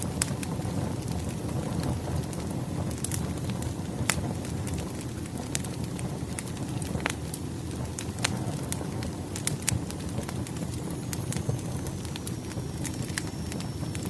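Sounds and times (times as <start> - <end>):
campfire rumble: 0.0 - 14.0
fire popping and snapping: 0.0 - 14.0.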